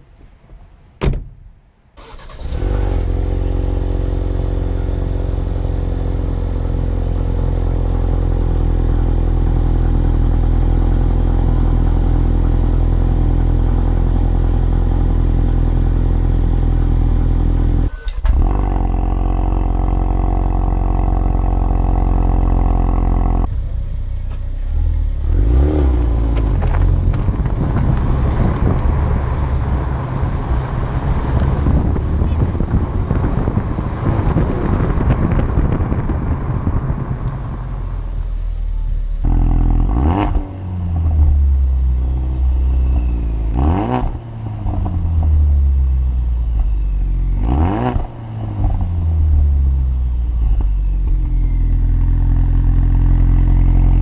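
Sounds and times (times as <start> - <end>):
car engine idling: 3.1 - 54.0.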